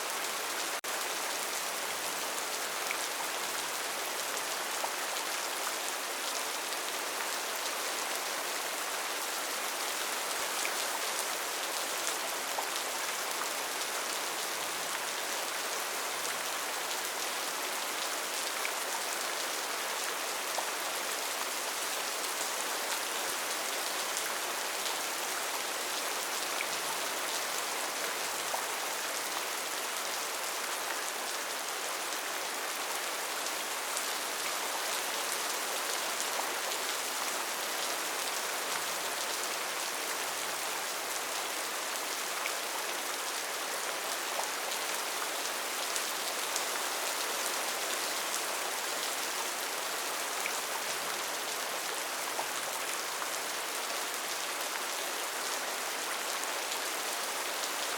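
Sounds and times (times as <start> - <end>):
rain on foliage: 0.0 - 57.9.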